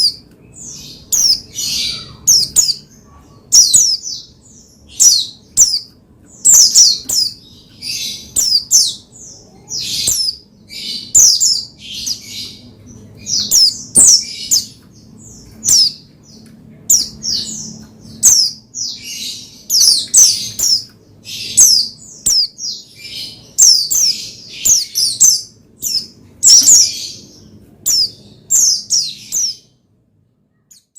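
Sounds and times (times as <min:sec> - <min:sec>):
bird chirping and whistling: 0:00.0 - 0:02.9, 0:03.5 - 0:12.6, 0:13.2 - 0:16.1, 0:16.9 - 0:29.7.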